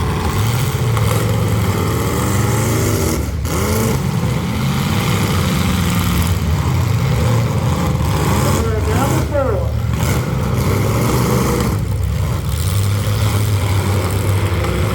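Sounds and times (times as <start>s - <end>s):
car engines revving loudly: 0.0s - 14.9s.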